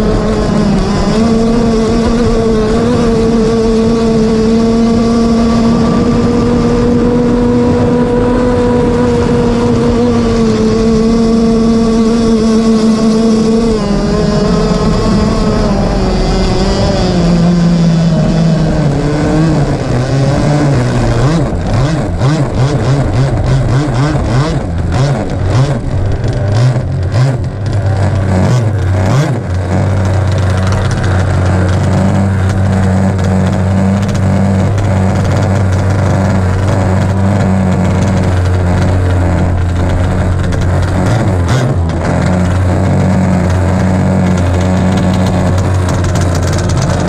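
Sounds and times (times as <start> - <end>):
two-stroke boat engine: 0.0 - 47.0.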